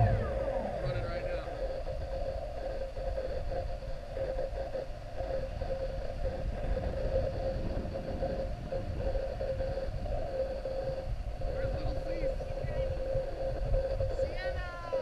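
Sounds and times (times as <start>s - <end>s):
air rumble on microphone: 0.0s - 15.0s
drone motors humming: 0.0s - 15.0s.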